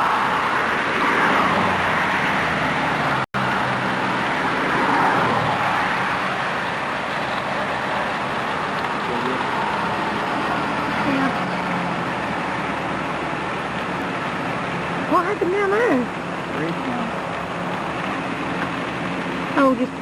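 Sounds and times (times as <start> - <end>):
car and road noise: 0.0 - 20.0.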